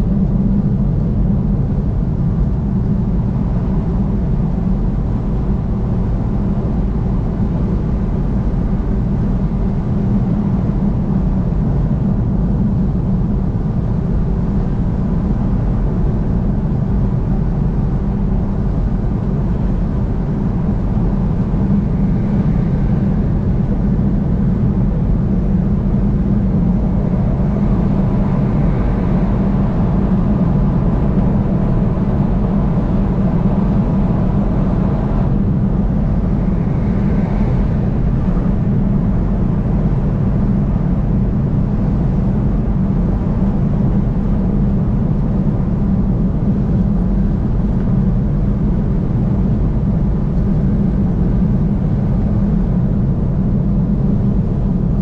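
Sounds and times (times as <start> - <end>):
vehicle road and engine noise: 0.0 - 55.0.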